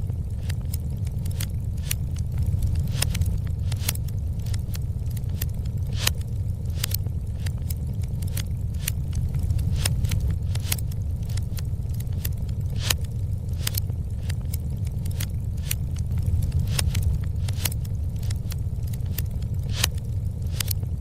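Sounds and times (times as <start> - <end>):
fire crackling and popping: 0.0 - 21.0
low rumble: 0.0 - 21.0.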